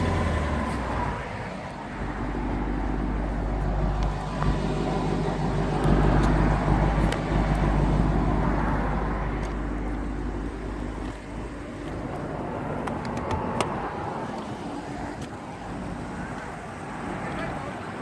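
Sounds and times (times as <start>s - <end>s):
car engine running: 0.0s - 17.7s.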